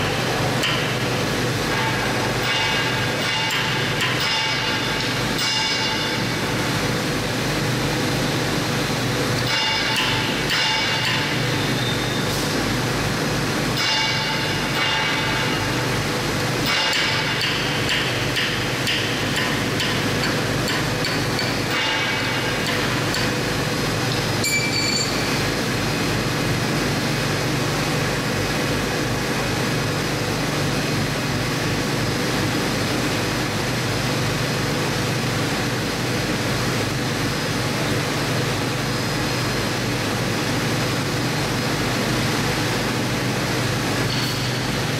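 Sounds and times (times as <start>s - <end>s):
workshop hum: 0.0s - 44.9s.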